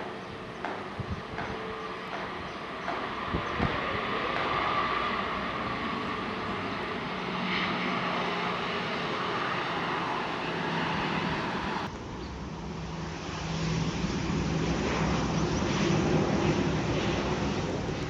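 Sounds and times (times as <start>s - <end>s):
jet engine rushing: 0.0s - 18.0s.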